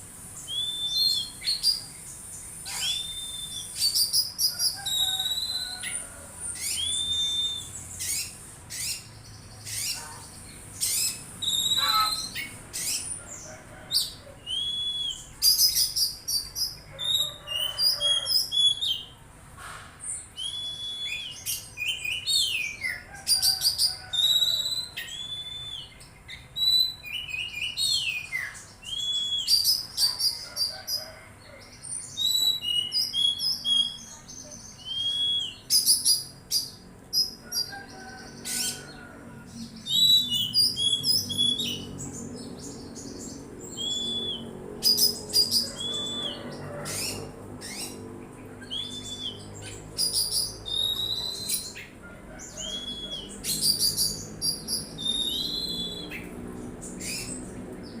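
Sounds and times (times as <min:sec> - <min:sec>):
bird singing whistles and chirps: 0:00.4 - 0:06.0, 0:06.6 - 0:09.1, 0:10.8 - 0:13.1, 0:14.0 - 0:19.1, 0:20.1 - 0:30.4, 0:32.0 - 0:37.4, 0:39.8 - 0:48.0, 0:48.6 - 0:51.8, 0:52.5 - 0:56.3.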